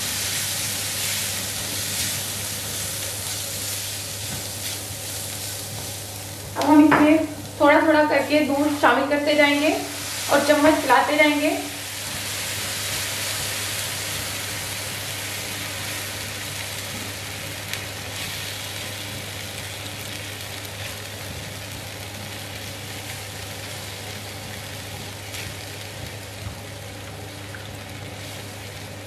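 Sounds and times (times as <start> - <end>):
onions sizzling in frying pan: 0.0 - 29.0
steady low hum: 0.0 - 29.0.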